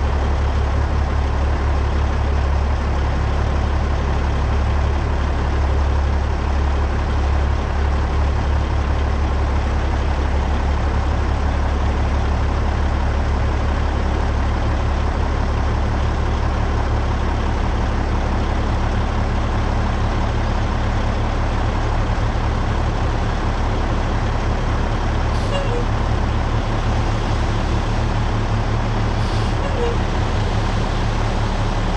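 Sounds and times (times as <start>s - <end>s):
dump truck diesel engine droning: 0.0s - 31.9s.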